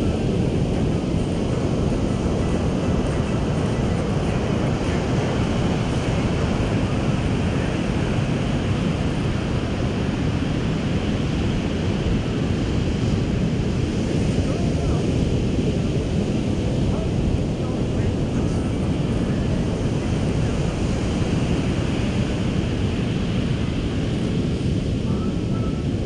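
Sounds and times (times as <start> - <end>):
ocean surf rushing: 0.0 - 26.0
wind buffeting microphone: 0.0 - 26.0.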